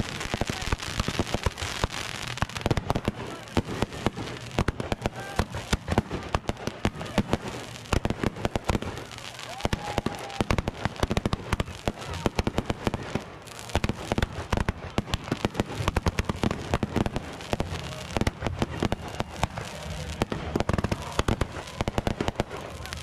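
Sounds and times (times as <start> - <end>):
fireworks cracking and popping: 0.0 - 23.0
hiss of burning pyrotechnics: 0.0 - 23.0.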